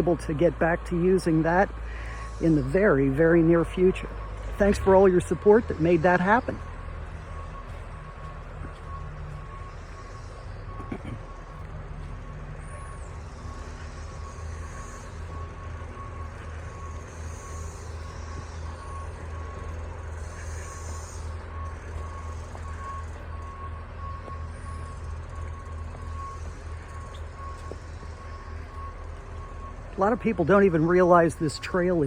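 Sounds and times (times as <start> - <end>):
back-up alarm beeping: 0.0 - 32.0
low engine rumble: 0.0 - 32.0.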